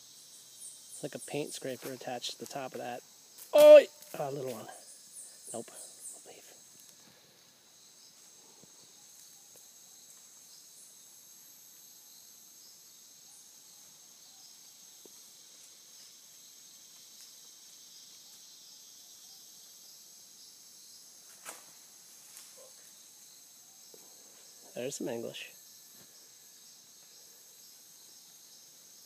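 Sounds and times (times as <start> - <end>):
chorus of insects pulsing: 0.0 - 29.0.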